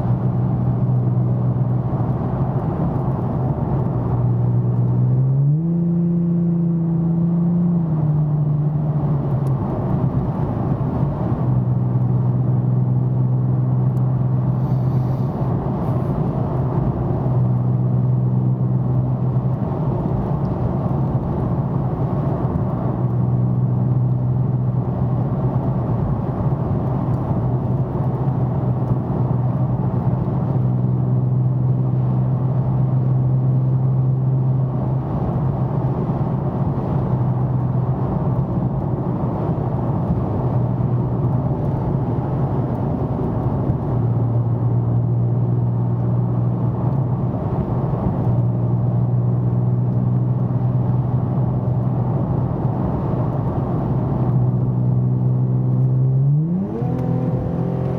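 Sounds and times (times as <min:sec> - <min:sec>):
low car exhaust drone: 0:00.0 - 0:57.9.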